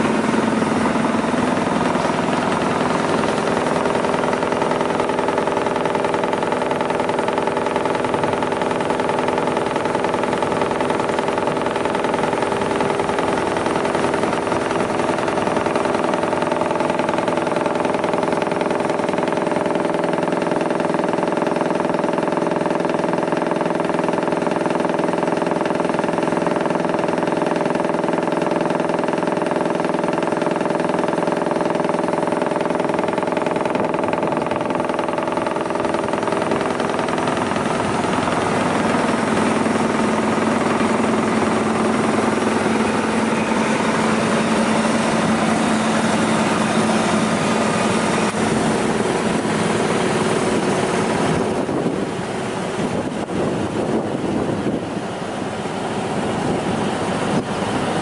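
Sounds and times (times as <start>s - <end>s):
low machine hum: 0.0s - 58.0s
wood chipper humming: 0.0s - 58.0s.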